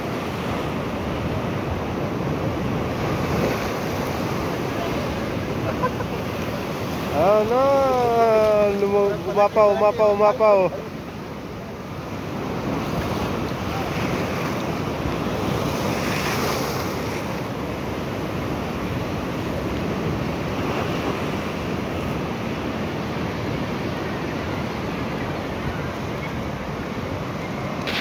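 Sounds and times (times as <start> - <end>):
surf washing over rock: 0.0 - 28.0.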